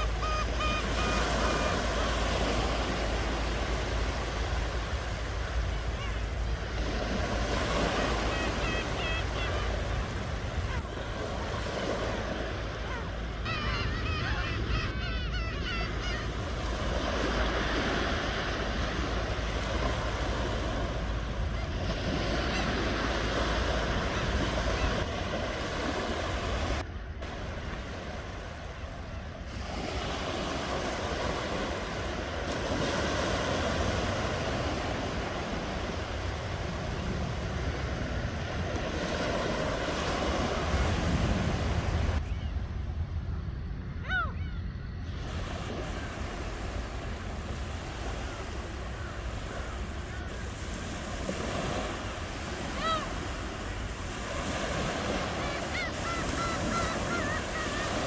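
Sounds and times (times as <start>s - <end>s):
low surf rumble: 0.0s - 32.6s, 33.7s - 58.0s
waves breaking on shore: 0.0s - 44.4s, 45.0s - 58.0s.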